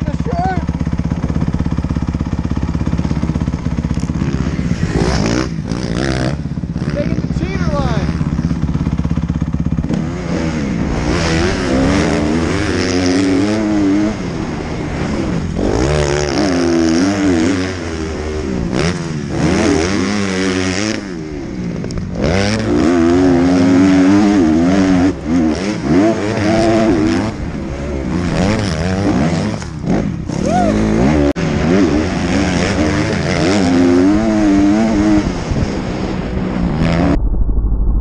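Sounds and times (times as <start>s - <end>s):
dirt bike engine revving: 0.0s - 37.2s.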